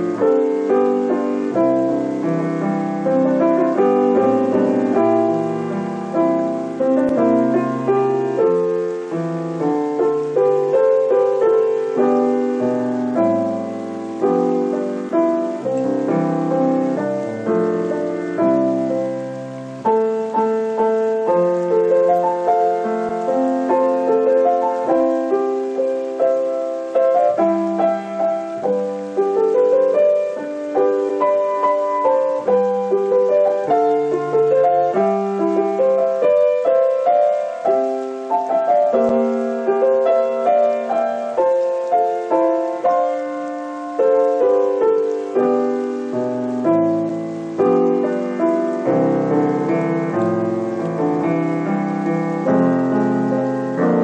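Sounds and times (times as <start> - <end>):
slow piano piece: 0.0 - 54.0.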